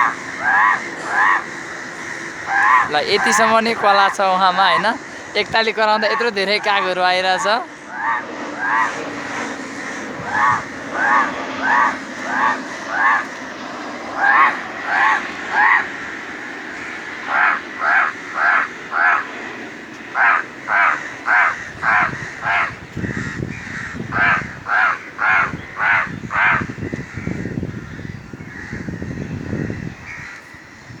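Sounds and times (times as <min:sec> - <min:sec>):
crows cawing: 0:00.0 - 0:31.0.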